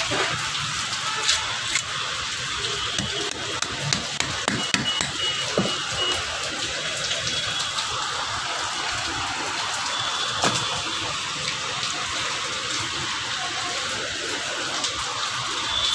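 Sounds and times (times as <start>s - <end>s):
water running: 0.2s - 13.3s.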